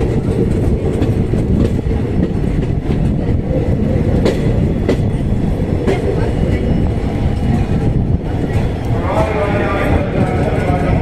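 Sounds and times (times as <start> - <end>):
moving passenger train rumble: 0.0 - 11.0.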